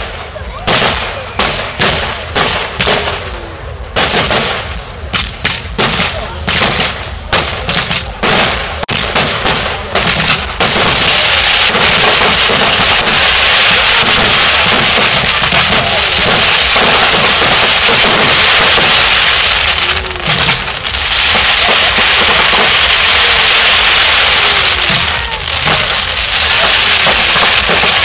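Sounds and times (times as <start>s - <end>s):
fireworks banging and crackling: 0.0s - 28.0s.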